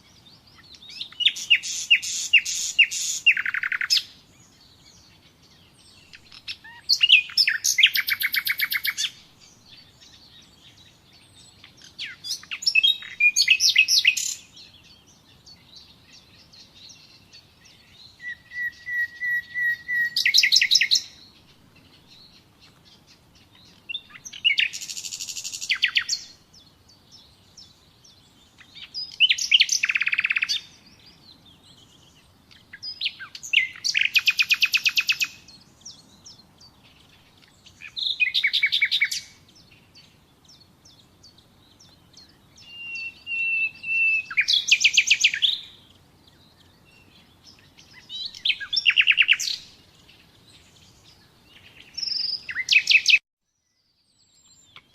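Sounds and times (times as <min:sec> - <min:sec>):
nightingale singing trills: 0:00.0 - 0:54.9.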